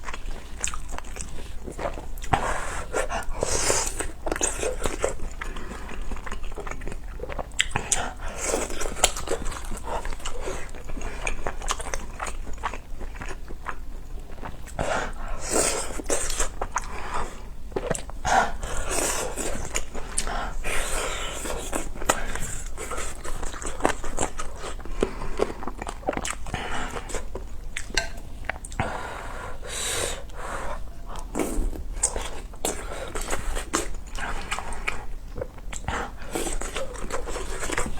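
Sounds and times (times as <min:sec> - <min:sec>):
close chewing and biting: 0:00.0 - 0:28.9, 0:30.2 - 0:37.9.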